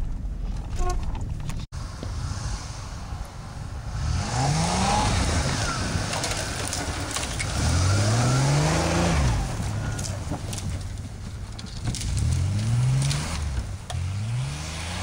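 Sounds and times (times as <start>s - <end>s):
engine revving under load: 1.8s - 10.7s, 11.9s - 15.0s.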